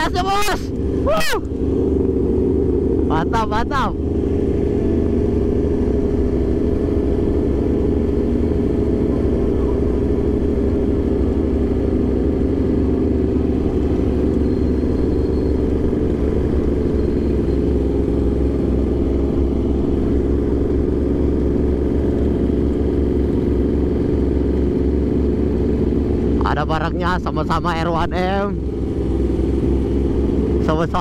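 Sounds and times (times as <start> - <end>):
motorcycle engine running steadily: 0.0 - 31.0.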